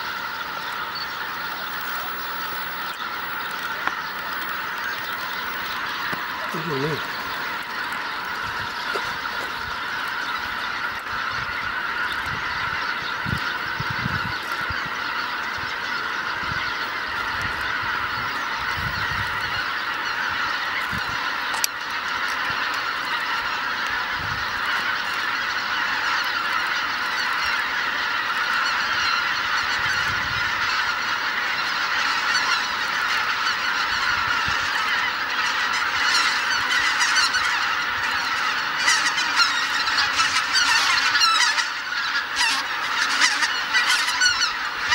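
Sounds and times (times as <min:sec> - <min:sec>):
flock of geese honking: 0:00.0 - 0:44.9.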